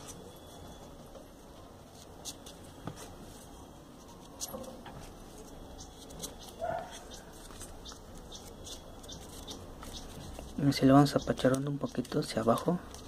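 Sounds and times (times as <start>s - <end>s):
paper clicks and rustles: 1.6s - 13.0s.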